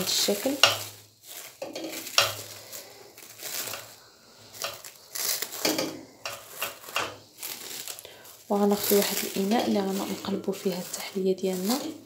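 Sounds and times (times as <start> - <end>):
cling film crinkling: 0.0 - 12.0.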